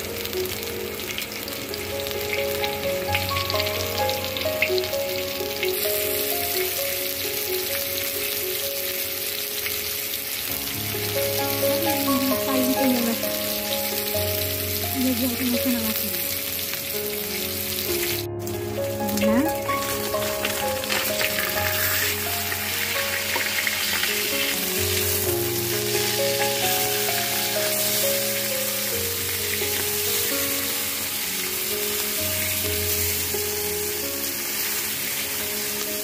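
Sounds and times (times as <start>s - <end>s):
background music melody: 0.0s - 36.0s
fish sizzling in oil: 0.0s - 36.0s.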